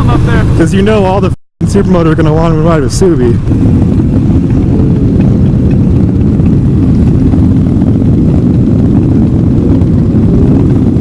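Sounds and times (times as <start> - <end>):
motorcycle engine drone: 0.0 - 11.0
wind rumble: 0.0 - 11.0.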